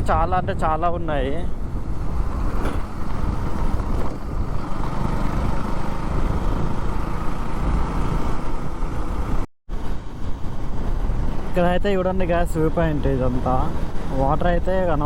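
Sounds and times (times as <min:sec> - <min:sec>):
road noise: 0:00.0 - 0:15.0
wind buffeting microphone: 0:00.0 - 0:15.0
motorcycle engine: 0:01.6 - 0:14.9.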